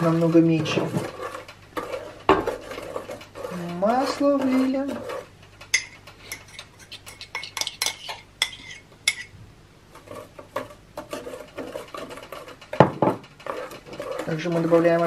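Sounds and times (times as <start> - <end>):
utensil stirring batter in pot: 0.0 - 9.3, 9.9 - 15.0.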